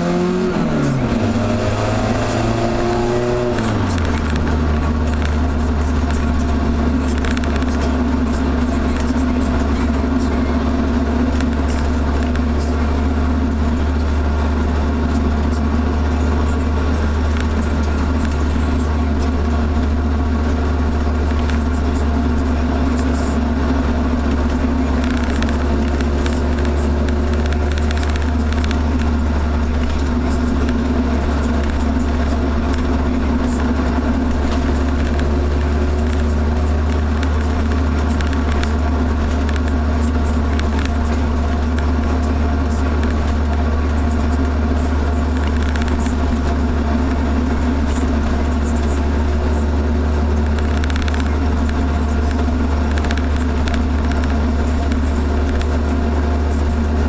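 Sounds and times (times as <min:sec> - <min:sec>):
engine and exhaust drone: 0:00.0 - 0:57.0
road noise: 0:00.0 - 0:57.0.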